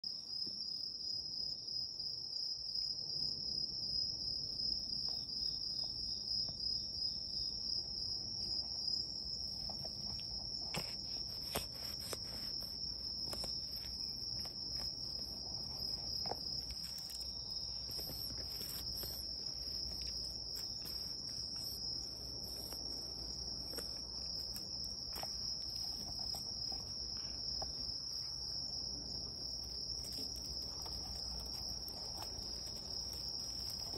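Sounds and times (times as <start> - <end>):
insect chorus trilling: 2.7 - 33.9.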